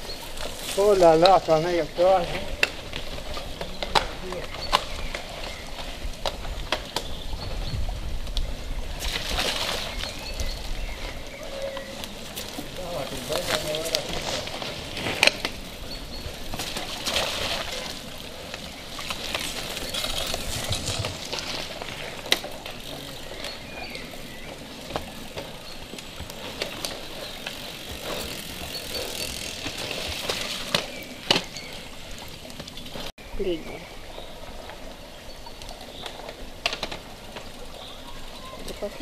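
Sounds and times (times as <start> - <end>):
bike tyres in mud: 0.0 - 39.0
bikes rattling: 0.0 - 39.0.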